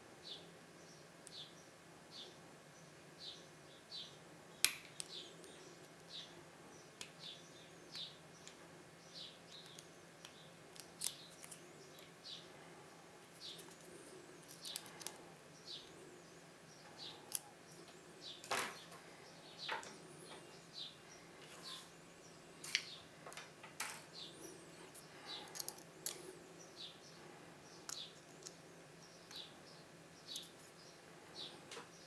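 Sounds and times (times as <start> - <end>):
small bird chirping: 0.2 - 23.1, 24.0 - 32.0.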